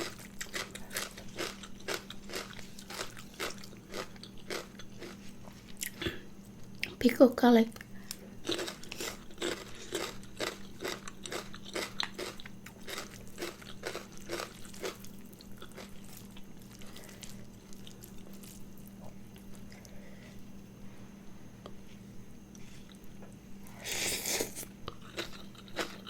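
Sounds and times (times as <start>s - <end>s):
chewing crunchy food: 0.0s - 7.0s, 7.8s - 20.0s, 22.5s - 26.0s
low electrical hum: 0.0s - 26.0s.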